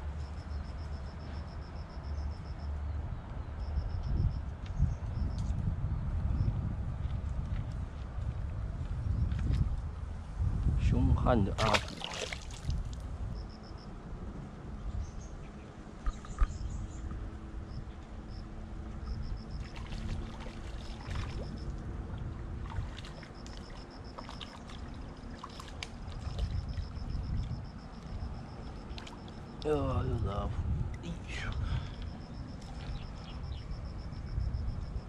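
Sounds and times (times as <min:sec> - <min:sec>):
riverside ambience: 0:00.0 - 0:35.0
wind rumbling on microphone: 0:00.0 - 0:35.0.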